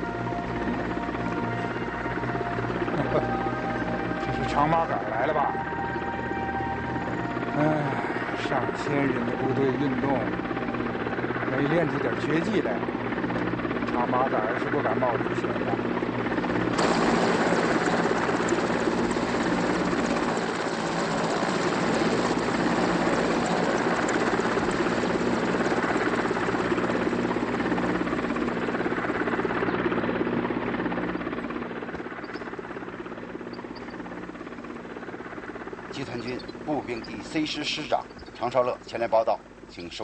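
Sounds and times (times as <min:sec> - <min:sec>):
helicopter engine and rotor: 0:00.0 - 0:40.0.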